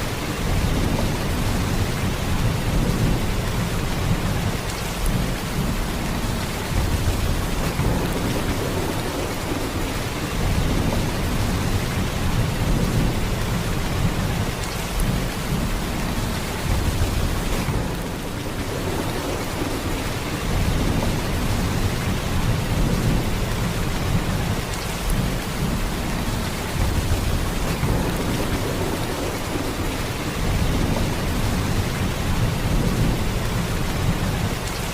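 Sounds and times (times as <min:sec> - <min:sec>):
heavy rain downpour: 0:00.0 - 0:34.9.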